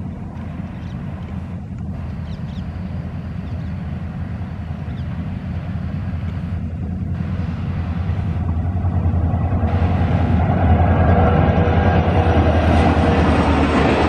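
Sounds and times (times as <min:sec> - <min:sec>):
diesel locomotive engine rumble: 0:00.0 - 0:14.0.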